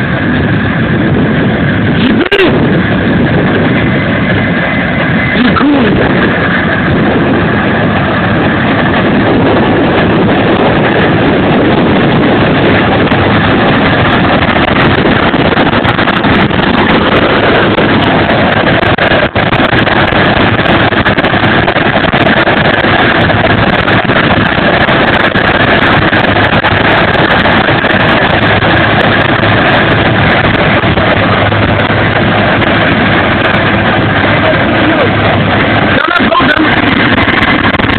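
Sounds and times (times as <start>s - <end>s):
combine harvester droning: 0.0s - 37.9s.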